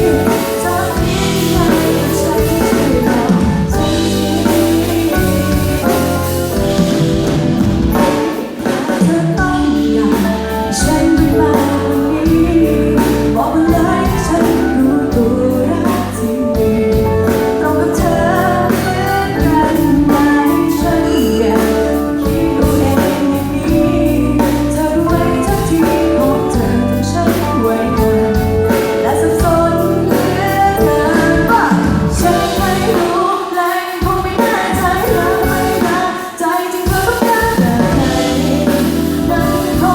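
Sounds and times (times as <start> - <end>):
woman singing pop song: 0.0 - 7.0, 7.9 - 39.9
backing music with drum beat: 0.0 - 39.9.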